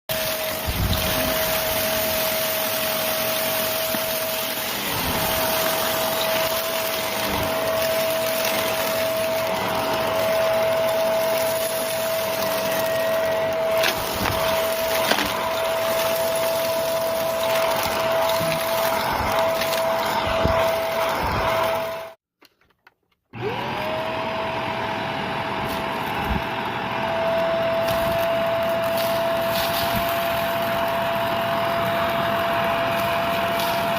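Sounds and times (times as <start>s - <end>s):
vacuum cleaner running: 0.1s - 22.2s, 23.4s - 33.9s.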